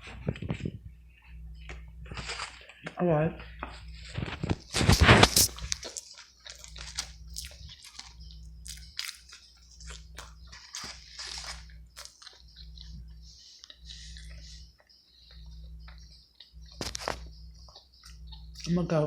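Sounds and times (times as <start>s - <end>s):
person chewing food: 0.1s - 18.7s.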